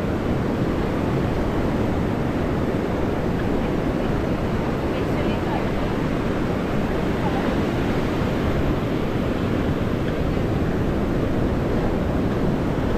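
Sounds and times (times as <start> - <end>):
sea surf on sandy beach: 0.0 - 12.9
wind rumbling on microphone: 0.0 - 12.9.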